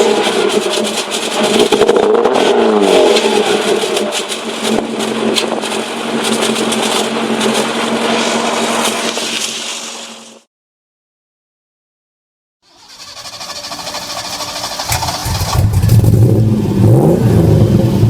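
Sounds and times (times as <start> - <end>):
car engine revving: 0.0 - 9.4, 12.7 - 18.0.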